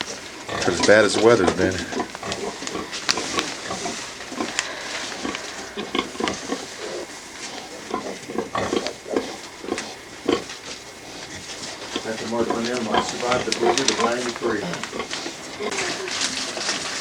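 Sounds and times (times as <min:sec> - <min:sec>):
pigs grunting: 0:00.0 - 0:17.0
rustling and shuffling: 0:00.0 - 0:17.0.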